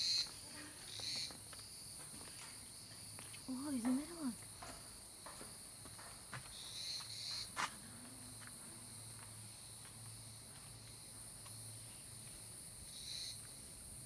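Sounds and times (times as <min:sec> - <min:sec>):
high-pitched insect chorus: 0:00.0 - 0:14.0
loud insect chirp: 0:00.0 - 0:14.0.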